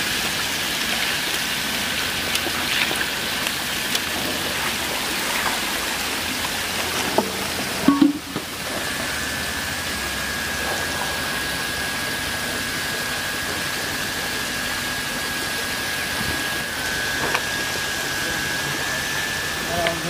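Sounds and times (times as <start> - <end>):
steady high whine: 0.0 - 20.0
water pouring into tanks: 0.0 - 20.0.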